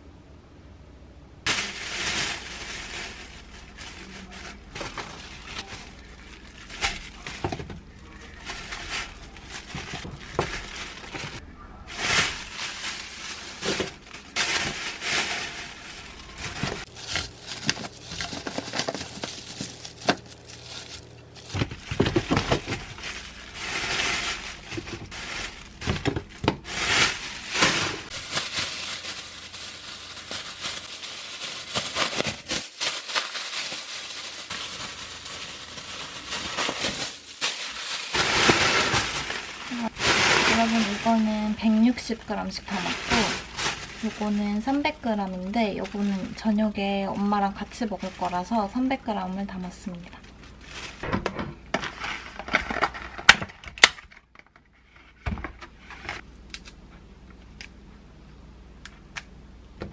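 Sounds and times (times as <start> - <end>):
plastic bags crinkling: 1.5 - 51.1, 51.7 - 54.4.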